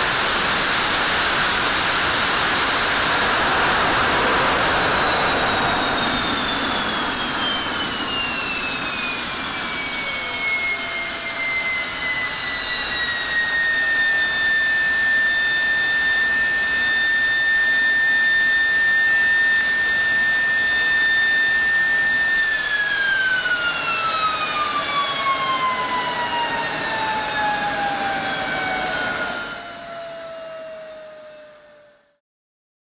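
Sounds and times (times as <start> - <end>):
jet engine roar: 0.0 - 32.0
turbine whine: 0.0 - 32.2.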